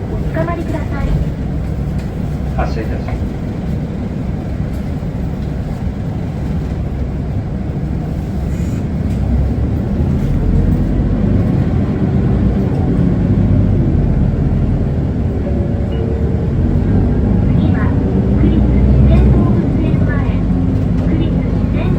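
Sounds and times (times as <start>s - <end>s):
bus diesel engine rumble: 0.0s - 21.9s
road noise: 0.0s - 21.9s.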